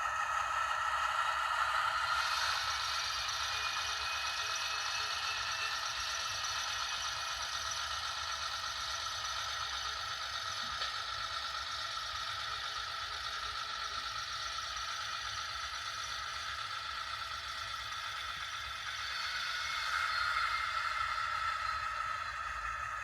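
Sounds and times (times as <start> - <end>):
constant high tone: 0.0 - 23.0
model train whirring and rattling: 0.0 - 23.0.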